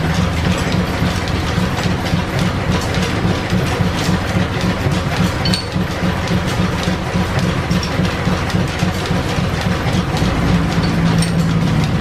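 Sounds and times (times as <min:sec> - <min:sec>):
belt-driven lathe clattering: 0:00.0 - 0:12.0.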